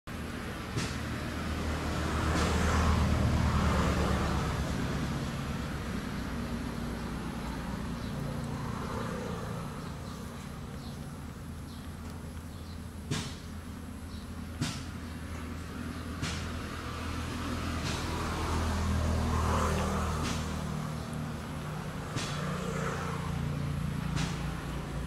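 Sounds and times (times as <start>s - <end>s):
vehicle engine running: 0.1s - 25.0s.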